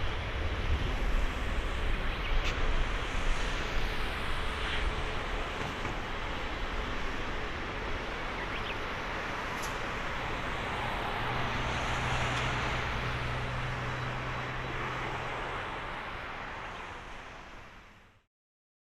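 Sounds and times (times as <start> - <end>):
jet engines at high power: 0.0 - 18.2.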